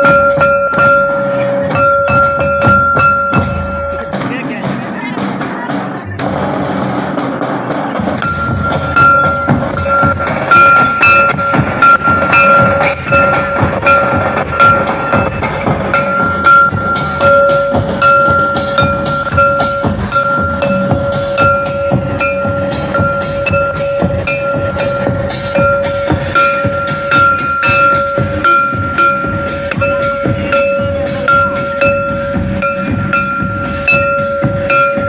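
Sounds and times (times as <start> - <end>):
held high tones: 0.0 - 4.3, 8.2 - 35.0
folk drums in dance rhythm: 0.0 - 35.0.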